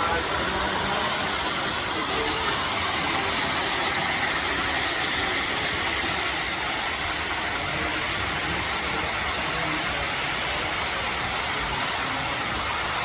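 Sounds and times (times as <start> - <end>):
model trains rumbling on track: 0.0 - 13.0.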